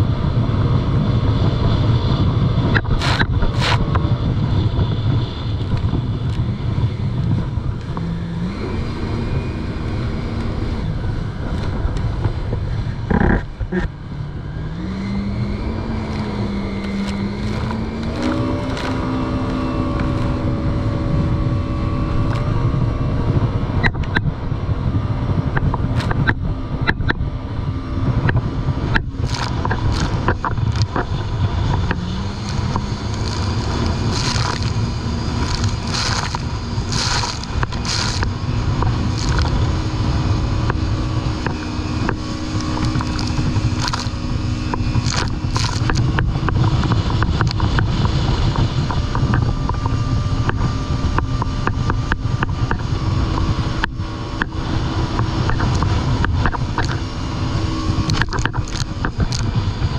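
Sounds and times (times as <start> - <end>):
jet ski engine: 0.0 - 59.9
rush of wind and water: 0.0 - 59.9.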